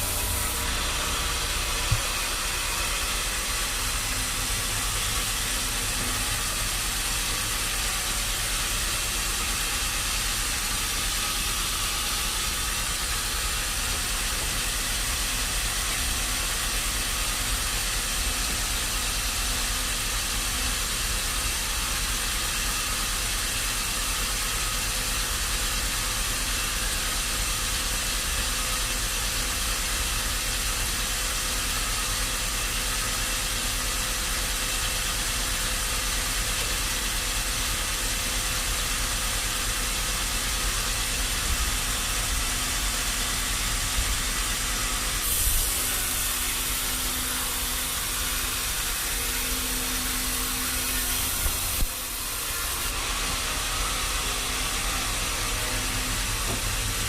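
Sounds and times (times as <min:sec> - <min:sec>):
machine hiss and rumble: 0:00.0 - 0:57.0.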